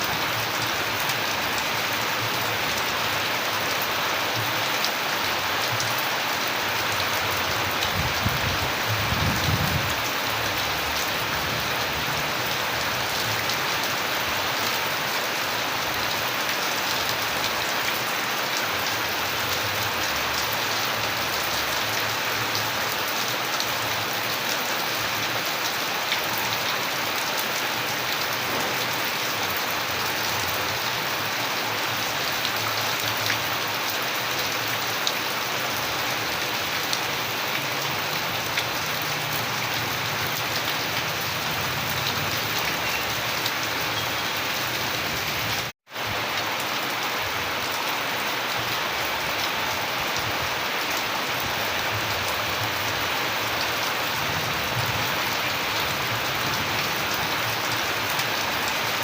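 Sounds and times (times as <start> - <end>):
dense rainfall: 0.0 - 59.0.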